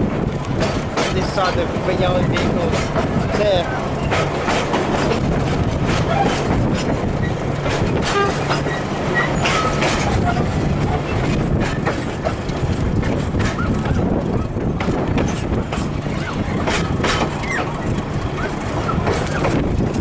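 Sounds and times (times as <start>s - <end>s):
train clicks and clanks: 0.0s - 20.0s
train rumbling: 0.0s - 20.0s.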